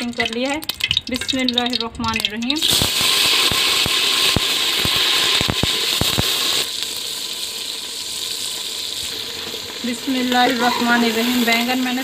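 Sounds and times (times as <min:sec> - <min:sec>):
oil crackling pops: 0:00.0 - 0:11.9
eggplant sizzling in hot oil: 0:00.0 - 0:12.0.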